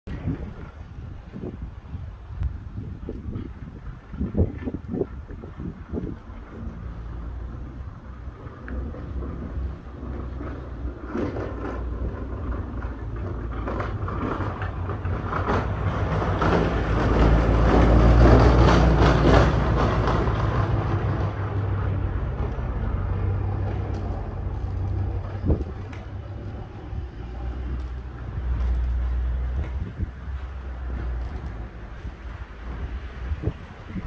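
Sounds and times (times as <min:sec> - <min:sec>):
blizzard wind gusting on microphone: 0:00.1 - 0:34.0.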